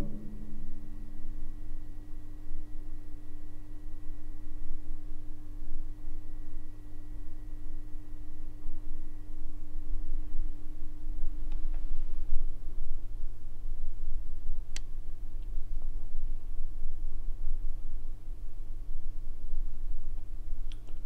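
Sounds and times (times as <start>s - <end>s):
electrical hum: 0.0s - 21.0s
faint high whine: 0.0s - 21.0s
steady pure tone: 0.0s - 21.0s.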